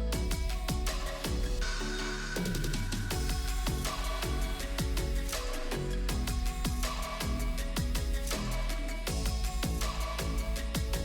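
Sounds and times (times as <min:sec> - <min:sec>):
deep kick drums: 0:00.0 - 0:01.8, 0:02.6 - 0:11.0.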